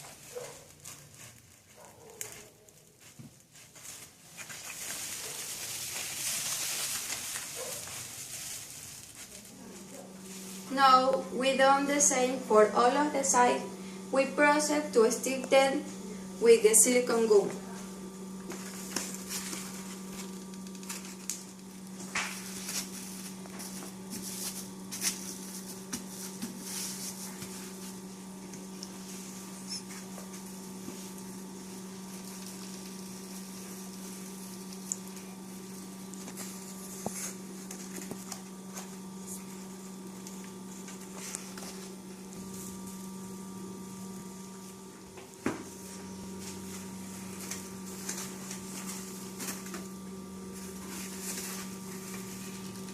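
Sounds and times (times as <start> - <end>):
electrical hum: 0.0 - 52.9.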